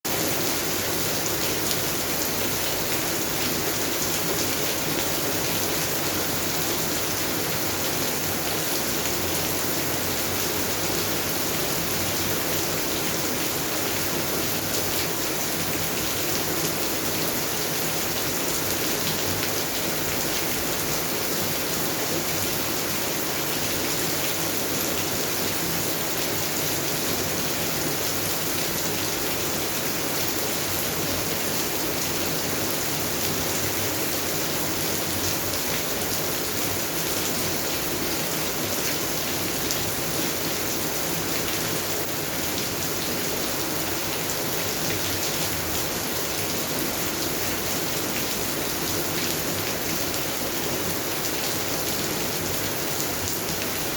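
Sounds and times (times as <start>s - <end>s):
rain on plants and ground: 0.1s - 53.9s.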